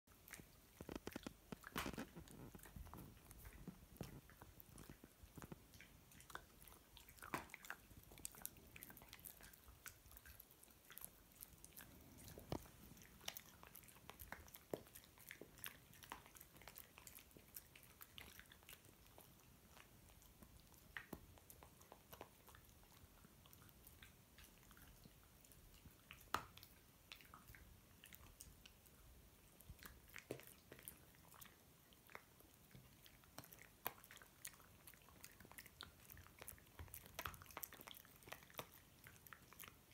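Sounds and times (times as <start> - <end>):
dog chewing crunchy food: 0.1 - 39.9.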